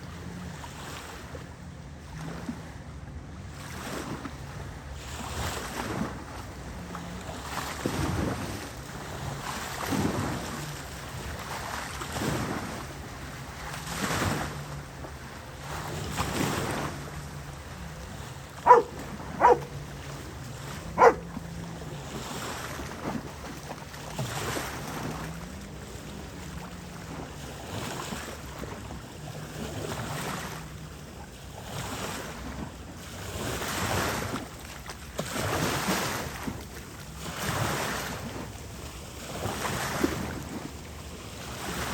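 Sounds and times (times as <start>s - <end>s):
distant boat motor hum: 0.0s - 41.9s
small waves washing onto beach: 0.0s - 41.9s.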